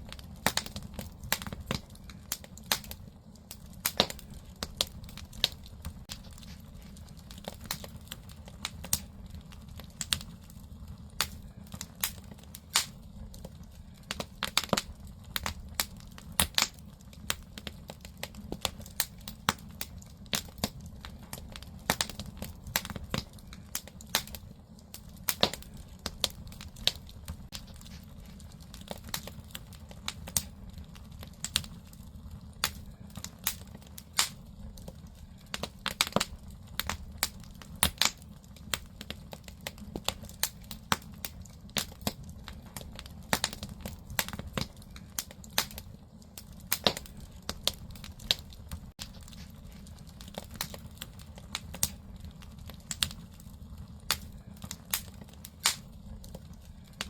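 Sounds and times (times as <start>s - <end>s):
firewood popping and crackling: 0.0s - 57.0s
low rumble of fire: 0.0s - 57.0s.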